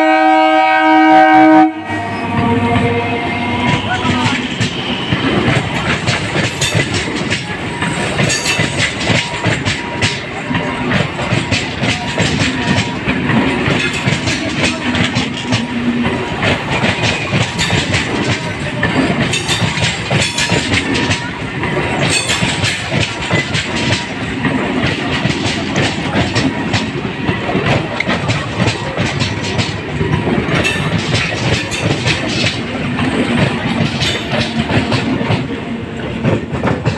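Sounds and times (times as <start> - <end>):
train wheels clattering on track: 0.0 - 36.9.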